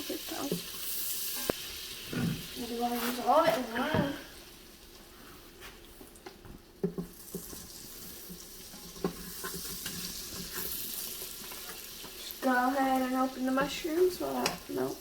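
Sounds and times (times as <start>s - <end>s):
butter sizzling in a pot: 0.0s - 5.0s, 6.8s - 15.0s.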